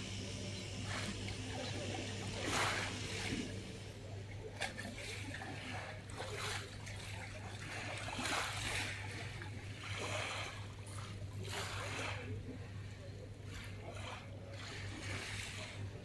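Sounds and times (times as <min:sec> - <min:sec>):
low hum: 0:00.0 - 0:16.0
waves lapping on pebble beach: 0:00.1 - 0:04.0, 0:04.6 - 0:16.0.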